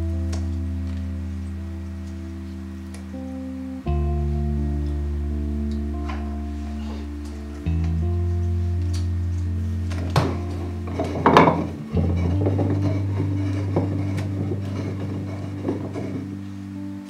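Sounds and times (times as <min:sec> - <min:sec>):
calm background music: 0:00.0 - 0:17.0.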